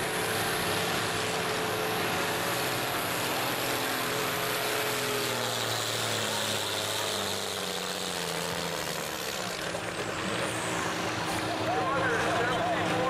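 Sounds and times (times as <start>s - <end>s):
tractor diesel engine at high revs: 0.0s - 13.0s.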